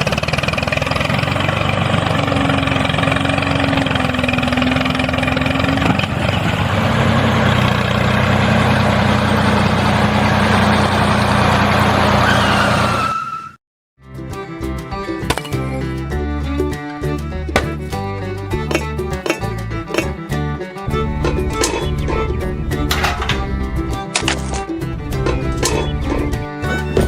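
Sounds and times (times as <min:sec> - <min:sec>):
vehicle engine humming: 0:00.0 - 0:13.2, 0:17.2 - 0:27.0.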